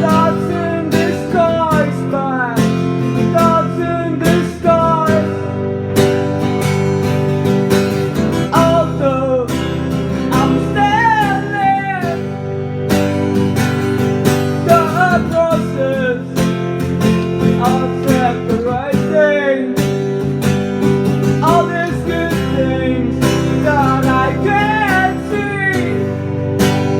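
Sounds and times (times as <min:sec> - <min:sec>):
person singing: 0:00.0 - 0:20.3, 0:21.0 - 0:26.9
acoustic guitar strumming: 0:00.0 - 0:26.9.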